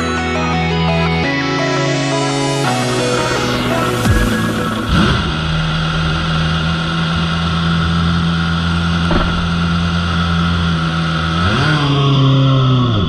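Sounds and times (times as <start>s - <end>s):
racing engine idling and revving: 2.1s - 13.0s.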